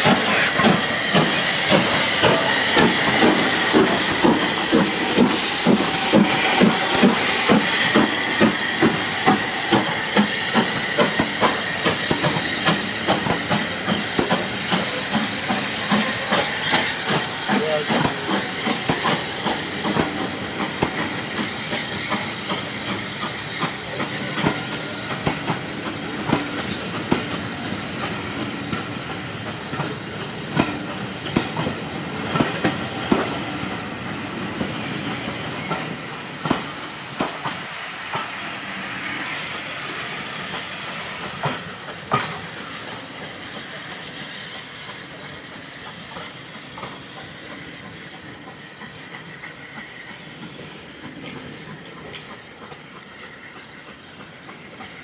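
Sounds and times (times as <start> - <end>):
train wheels clicking over rail joints: 0.0 - 55.0.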